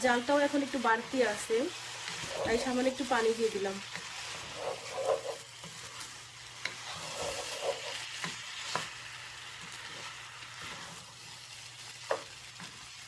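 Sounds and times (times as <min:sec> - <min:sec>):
rice sizzling in a pot: 0:00.0 - 0:13.0.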